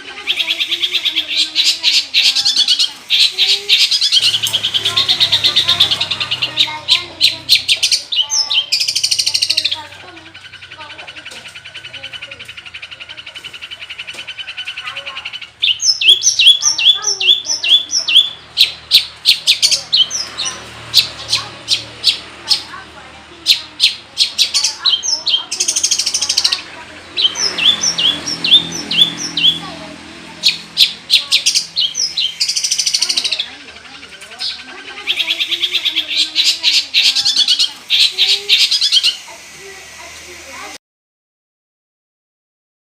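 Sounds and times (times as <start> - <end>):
bird singing: 0.0 - 40.8.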